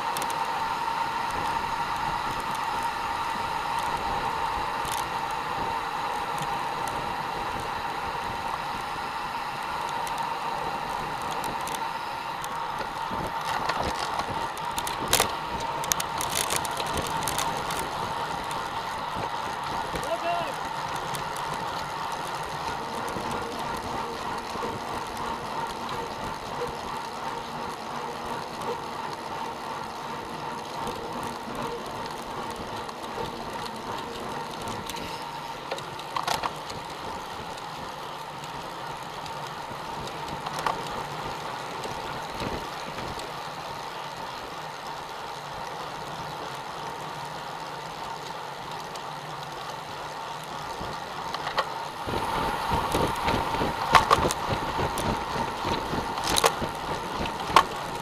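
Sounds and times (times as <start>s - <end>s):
rush of bicycle tyres and wind: 0.0s - 58.0s.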